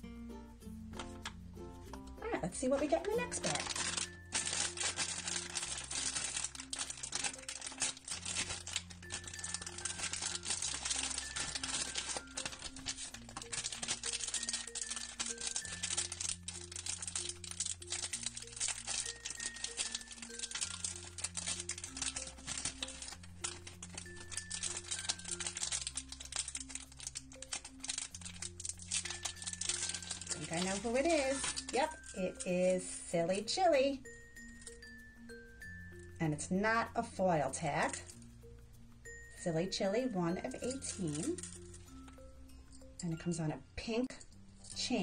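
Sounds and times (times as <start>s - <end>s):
background music: 0.0s - 45.0s
plastic foil bag crinkling: 2.2s - 36.5s, 37.5s - 38.3s, 39.1s - 42.3s
bead chain clicking: 2.8s - 32.9s, 33.5s - 36.2s, 37.8s - 42.8s, 44.2s - 44.8s.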